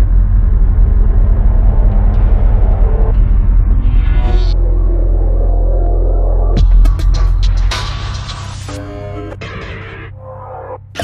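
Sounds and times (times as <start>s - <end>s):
soundtrack music: 0.0s - 11.0s.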